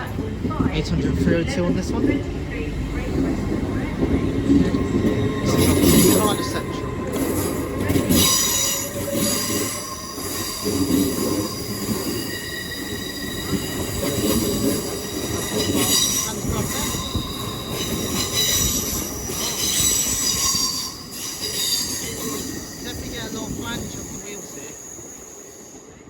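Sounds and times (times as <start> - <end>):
low rumble of train wheels: 0.0 - 26.0
train wheel flange squeal: 3.8 - 26.0.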